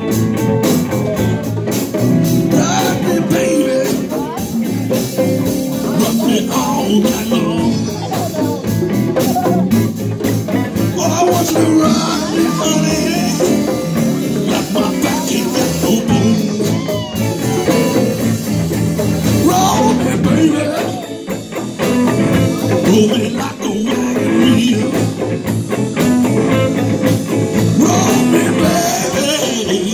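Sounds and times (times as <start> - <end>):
congas: 0.0 - 29.9
live band playing: 0.0 - 29.9.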